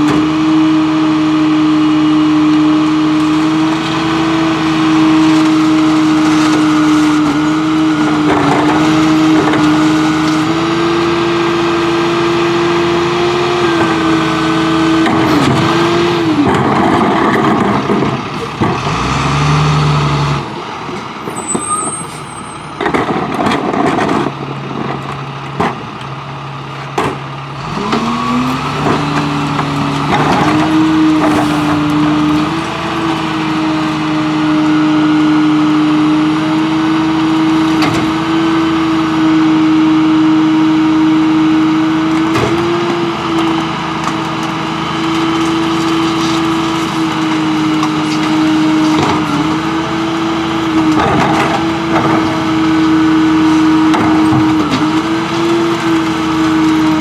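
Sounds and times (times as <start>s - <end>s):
garbage truck engine droning: 0.0s - 57.0s.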